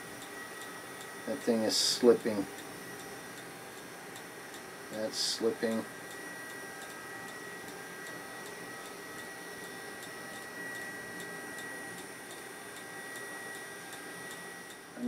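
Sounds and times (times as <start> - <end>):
tape recorder high whine: 0.0 - 15.0.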